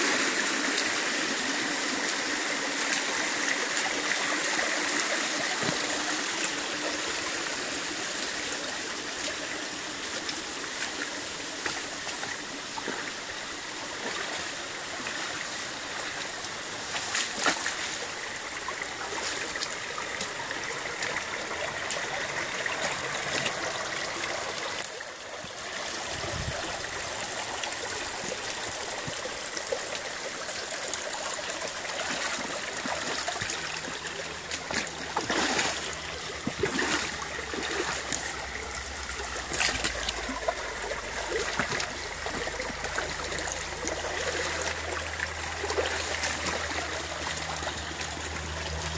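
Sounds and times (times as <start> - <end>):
stream rushing over stones: 0.0 - 48.9.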